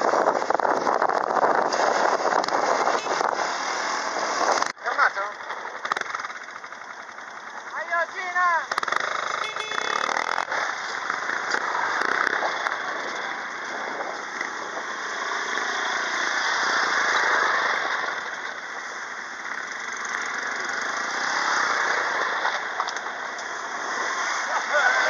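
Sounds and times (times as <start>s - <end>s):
quad bike engine running: 0.1s - 25.0s.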